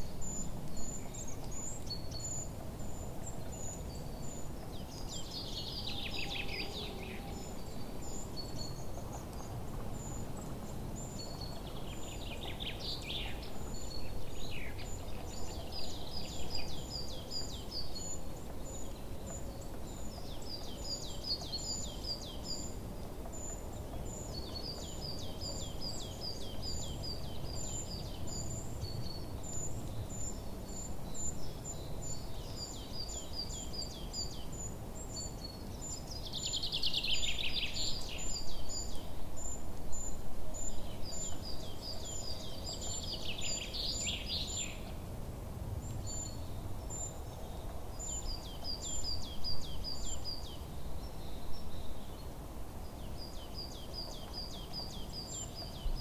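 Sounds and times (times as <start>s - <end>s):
small birds chirping: 0.0s - 45.2s, 45.8s - 56.0s
low background hiss: 0.0s - 56.0s.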